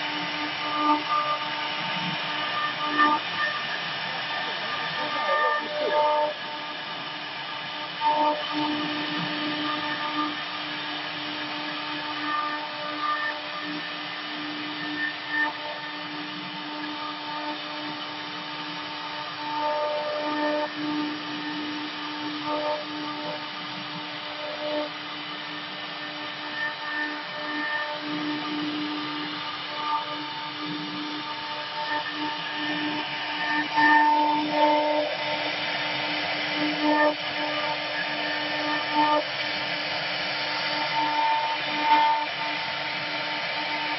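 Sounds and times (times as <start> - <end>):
router spindle motors whining: 0.0 - 43.9.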